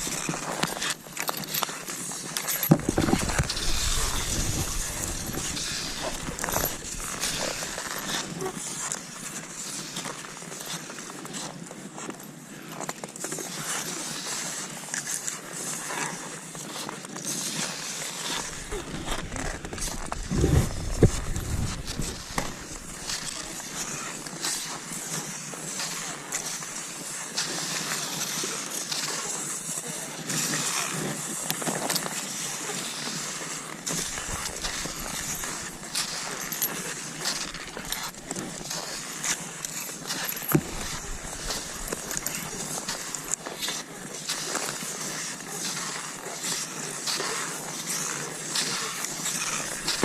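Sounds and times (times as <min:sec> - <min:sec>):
ski poles crunching in snow: 0:00.0 - 0:12.1, 0:17.3 - 0:29.6, 0:30.2 - 0:50.0
skis scraping over snow: 0:00.0 - 0:50.0.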